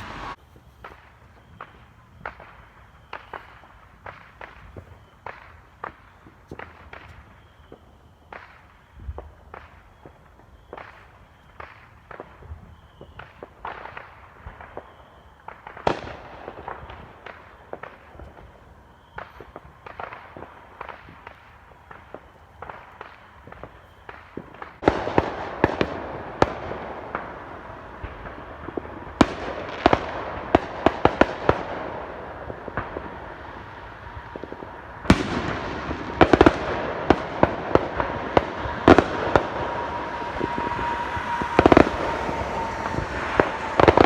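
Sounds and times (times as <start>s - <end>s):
fireworks popping and banging: 0.0s - 44.0s.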